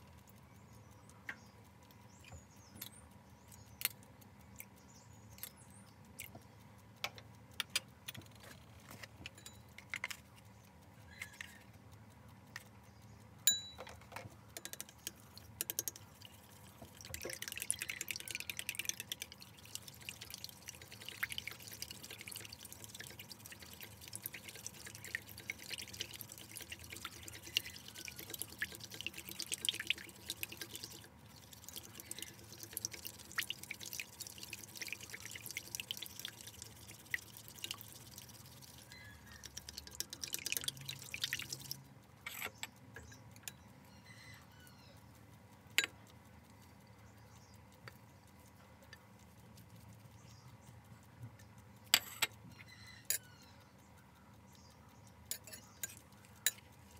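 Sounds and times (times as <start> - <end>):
chopsticks beating eggs in a bowl: 0.0 - 56.9.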